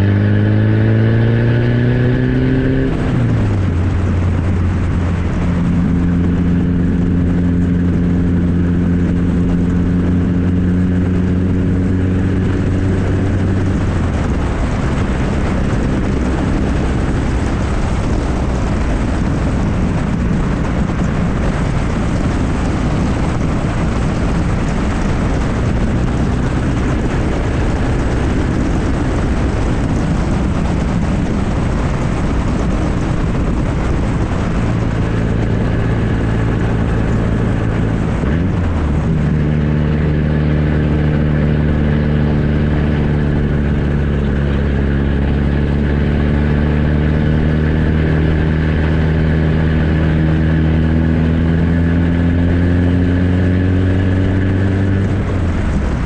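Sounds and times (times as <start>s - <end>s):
car exhaust droning: 0.0s - 56.0s.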